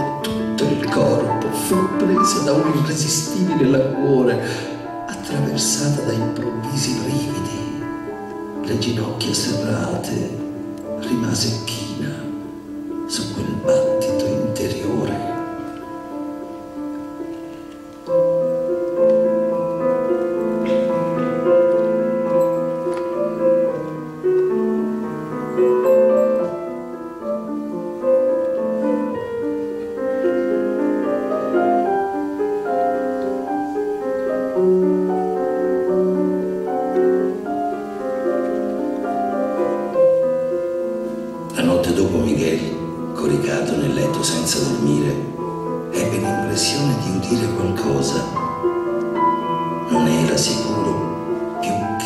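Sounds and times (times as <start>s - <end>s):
slow solo piano: 0.0s - 52.0s.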